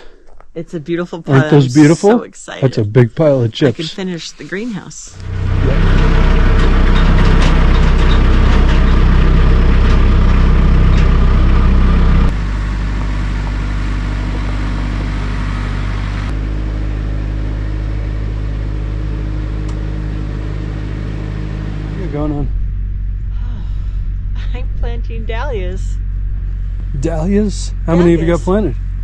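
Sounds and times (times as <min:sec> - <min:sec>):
engine running: 0:00.8 - 0:29.0.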